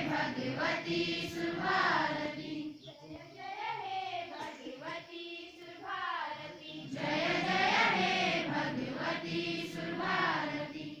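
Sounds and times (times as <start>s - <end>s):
children singing in unison: 0.0s - 11.0s.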